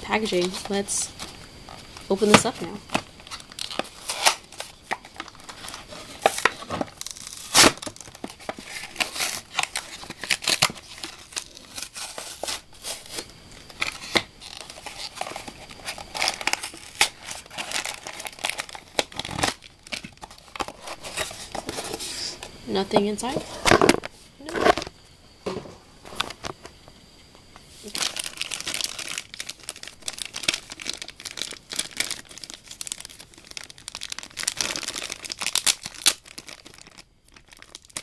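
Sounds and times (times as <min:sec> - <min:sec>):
plastic packaging tearing and crinkling: 0:00.0 - 0:22.3, 0:27.8 - 0:38.0.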